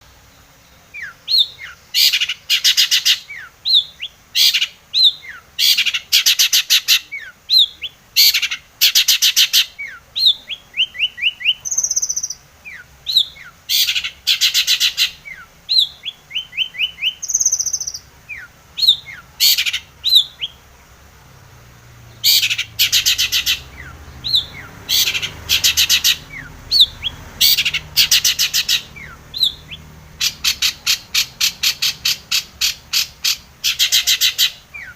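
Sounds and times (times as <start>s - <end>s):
high whistled bird notes: 0.9s - 20.6s, 22.1s - 34.9s.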